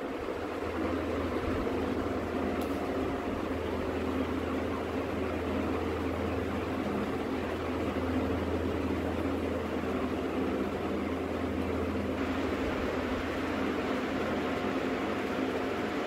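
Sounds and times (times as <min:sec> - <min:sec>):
faint steady tones: 0:00.0 - 0:16.0
low machine hum: 0:00.0 - 0:16.0.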